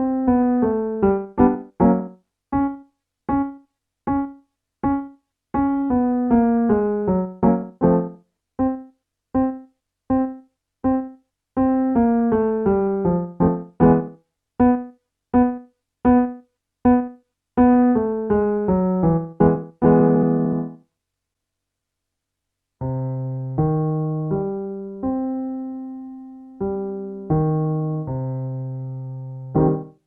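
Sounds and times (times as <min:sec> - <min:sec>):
piano warmup pattern: 0:00.0 - 0:20.9, 0:22.8 - 0:30.0.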